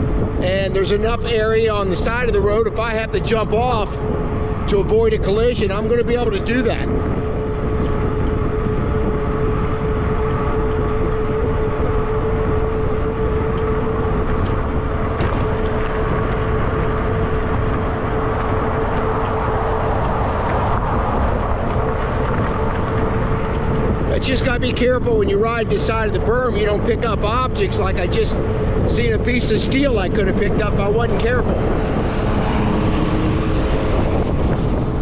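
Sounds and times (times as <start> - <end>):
e-bike drive whine: 0.0 - 35.0
wind and road rumble: 0.0 - 35.0.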